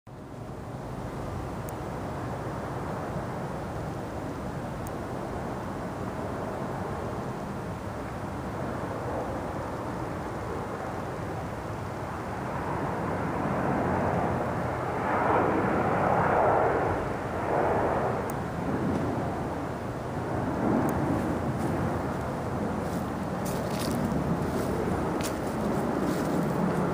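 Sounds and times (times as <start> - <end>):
jet aircraft passing overhead: 0.2 - 26.9.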